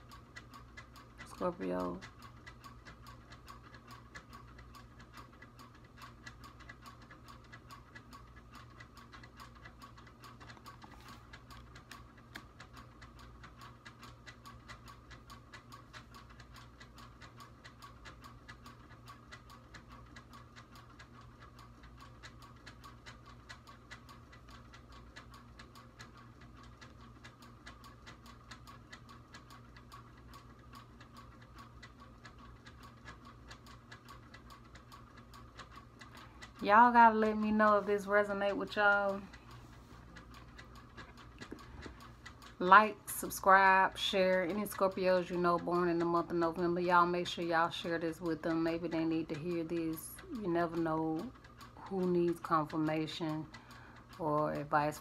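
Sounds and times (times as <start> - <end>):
faint steady ticking: 0.0 - 55.0
low steady hum: 0.0 - 55.0.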